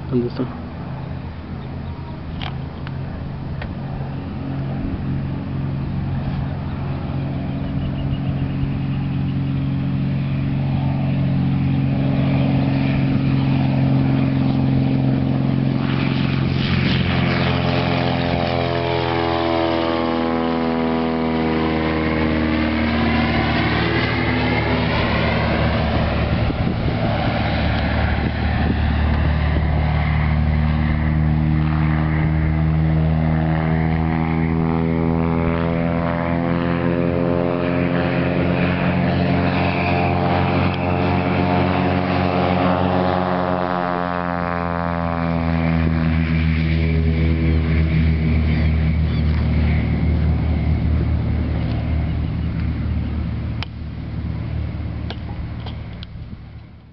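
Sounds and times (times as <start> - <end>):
propeller plane engine: 0.0 - 56.9.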